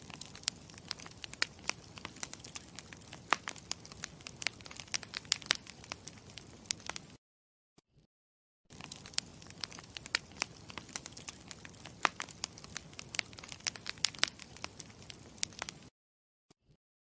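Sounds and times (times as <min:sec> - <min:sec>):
campfire crackling: 0:00.0 - 0:07.2, 0:08.7 - 0:15.9.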